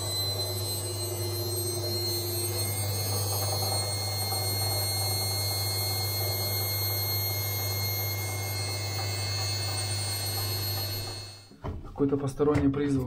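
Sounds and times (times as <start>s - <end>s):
washing machine spinning: 0.0s - 11.5s.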